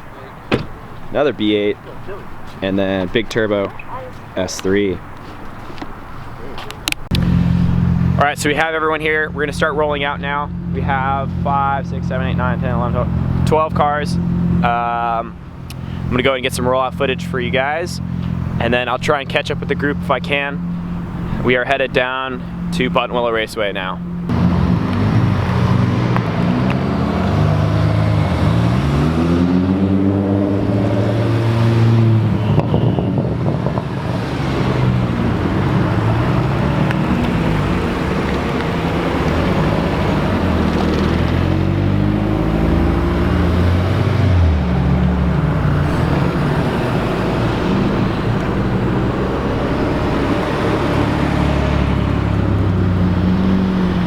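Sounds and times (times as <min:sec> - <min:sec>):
cars revving and driving past: 0:00.0 - 0:54.0.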